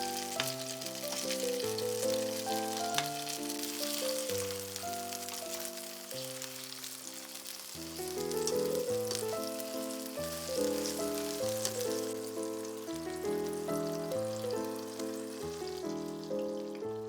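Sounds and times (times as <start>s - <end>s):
food sizzling in hot oil: 0.0s - 16.9s
instrumental background music: 0.0s - 17.0s.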